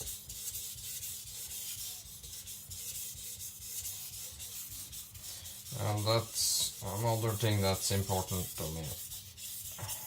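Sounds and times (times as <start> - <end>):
knife scraping on whetstone: 0.0 - 10.0.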